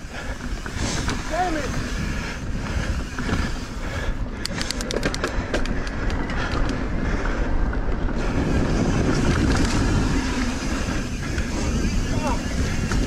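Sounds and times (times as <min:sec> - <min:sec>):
bike tyres rumbling over dirt: 0:00.0 - 0:13.0
wind on microphone: 0:00.0 - 0:13.0.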